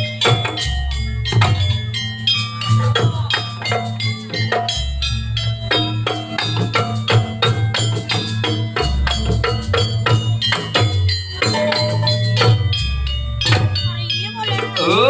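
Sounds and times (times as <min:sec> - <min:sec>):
drums: 0:00.0 - 0:15.0
pitched percussion strikes: 0:00.0 - 0:15.0.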